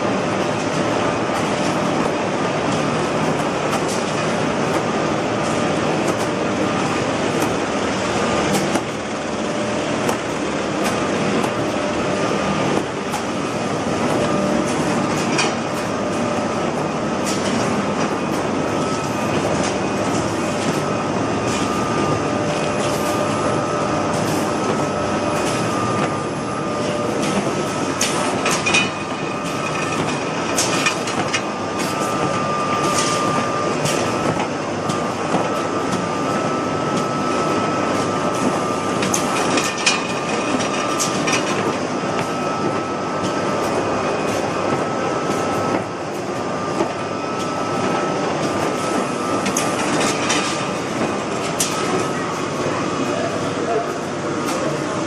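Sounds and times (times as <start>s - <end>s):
machine clatter of belts and rollers: 0.0s - 55.0s
thin steady whine: 0.0s - 55.0s.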